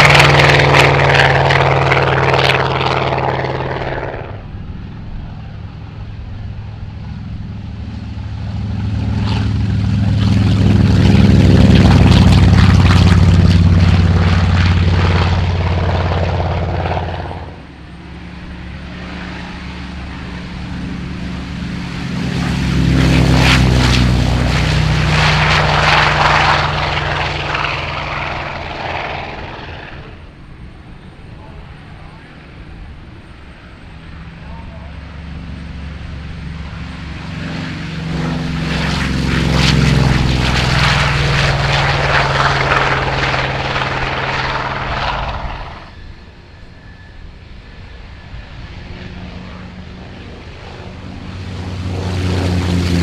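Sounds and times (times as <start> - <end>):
propeller aircraft engine drone: 0.0 - 53.0.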